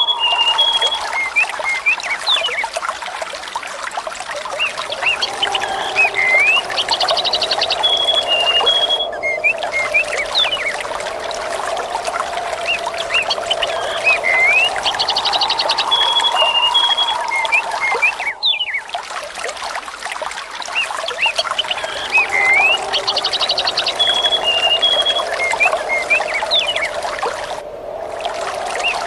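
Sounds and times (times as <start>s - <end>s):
birdsong chirps and trills: 0.0s - 2.7s, 4.4s - 19.0s, 20.7s - 27.7s
water trickling and pouring: 0.0s - 29.0s.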